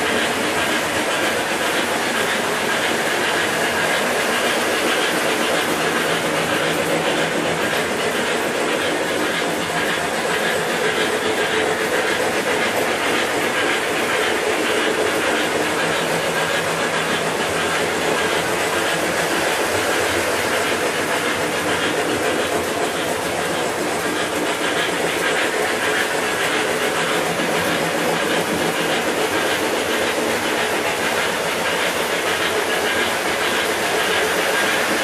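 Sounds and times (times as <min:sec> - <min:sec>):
hiss: 0:00.0 - 0:35.0
model trains rumbling on track: 0:00.0 - 0:35.0.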